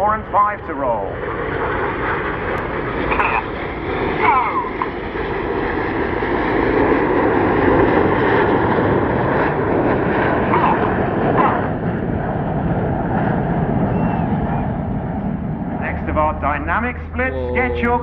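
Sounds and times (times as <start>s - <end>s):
jet aircraft flying past: 0.0s - 18.0s.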